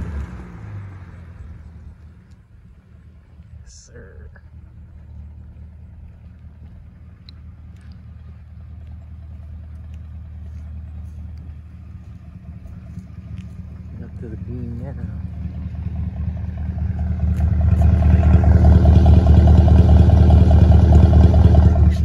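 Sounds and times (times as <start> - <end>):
car exhaust drone: 0.0 - 22.0.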